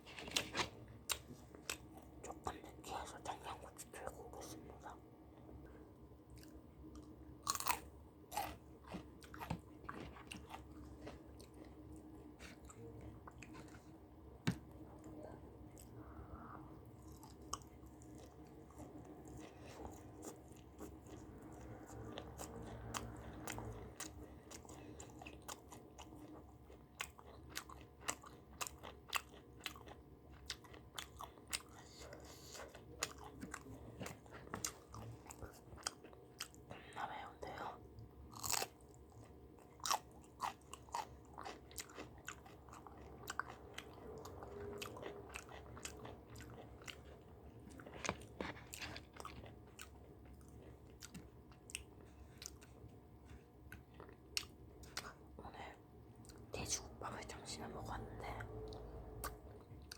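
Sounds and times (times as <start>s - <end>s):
close chewing and crunching: 0.0s - 5.0s, 6.3s - 13.9s, 16.9s - 59.9s.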